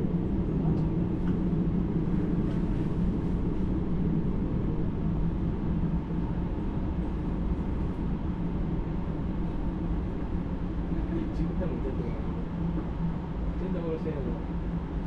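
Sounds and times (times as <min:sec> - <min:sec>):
train rumbling inside passenger car: 0:00.0 - 0:15.0.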